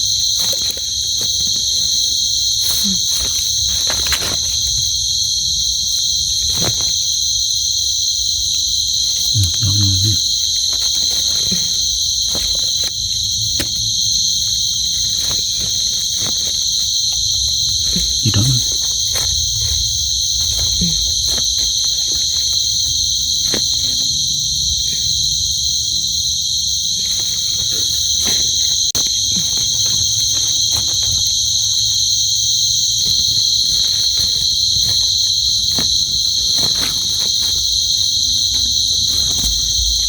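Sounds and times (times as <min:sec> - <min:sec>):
crickets and insects trilling: 0:00.0 - 0:40.0
rustles: 0:00.0 - 0:40.0.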